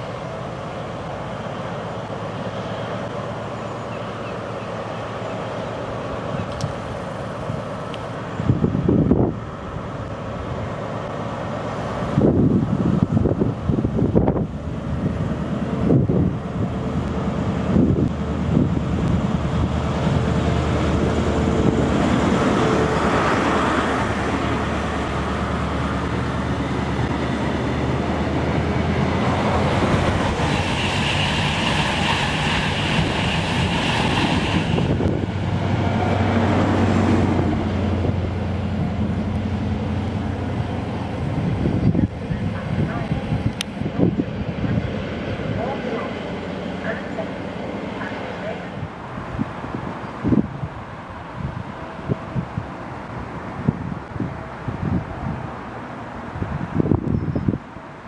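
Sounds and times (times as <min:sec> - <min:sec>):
diesel train engine drone: 0:00.0 - 0:58.0
train wheels on rails: 0:00.0 - 0:58.0.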